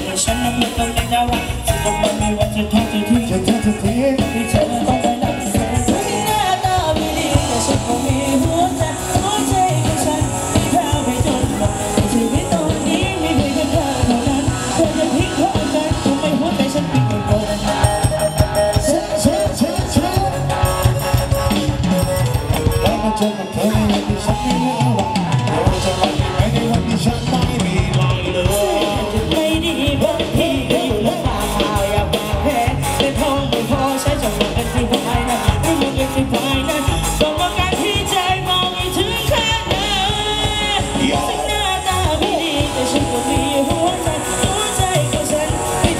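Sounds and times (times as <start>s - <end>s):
drum kit: 0.0s - 45.9s
electric guitar: 0.0s - 45.9s
keyboard: 0.0s - 45.9s
singer: 0.0s - 45.9s.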